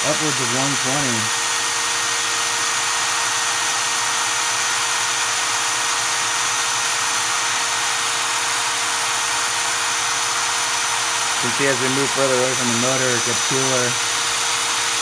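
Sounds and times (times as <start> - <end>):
drill motor whining: 0.0 - 15.0.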